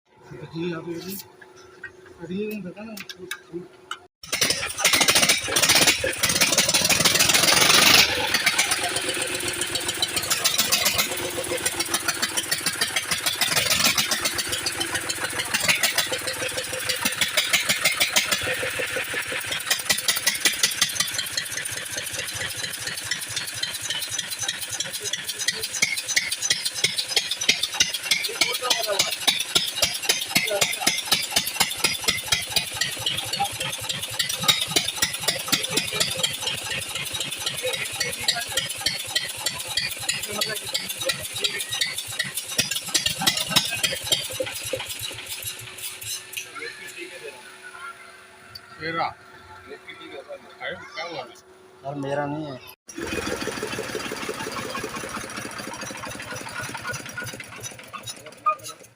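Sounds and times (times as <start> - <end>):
diesel engine running: 0.1 - 58.9
diesel engine hand-cranked: 1.0 - 47.7, 52.9 - 58.9.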